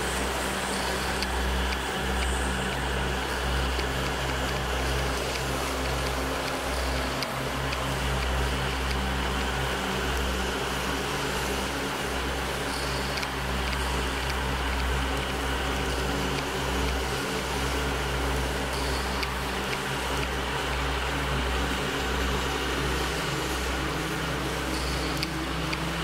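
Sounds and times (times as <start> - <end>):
quadcopter motors humming: 0.0 - 26.0.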